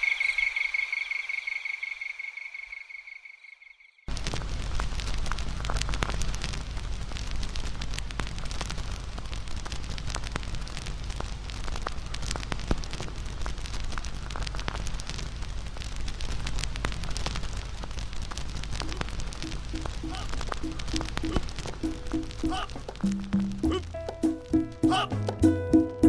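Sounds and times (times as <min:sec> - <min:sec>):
campfire crackling: 0:04.1 - 0:25.9.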